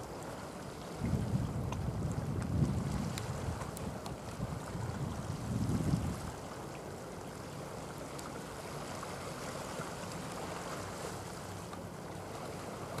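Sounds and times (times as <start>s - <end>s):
light wind: 0.0s - 13.0s.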